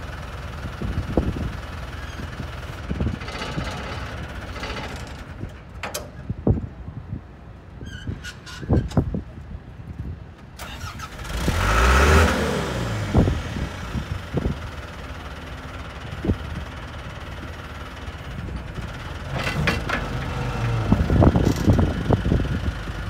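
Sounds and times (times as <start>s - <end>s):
diesel engine starting and idling: 0.0s - 9.1s, 9.9s - 23.0s.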